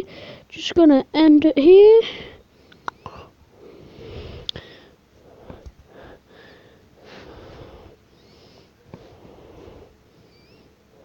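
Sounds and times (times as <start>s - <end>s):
person breathing softly: 0.0s - 0.5s, 2.0s - 11.0s.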